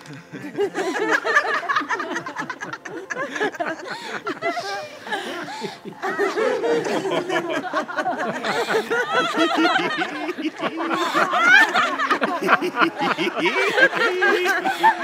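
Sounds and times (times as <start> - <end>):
group of people laughing: 0.0 - 15.0.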